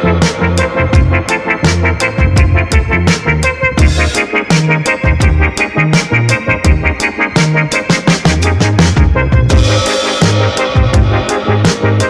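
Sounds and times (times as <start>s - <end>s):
background music with drum beat: 0.0s - 12.0s
low bass line: 0.0s - 12.0s.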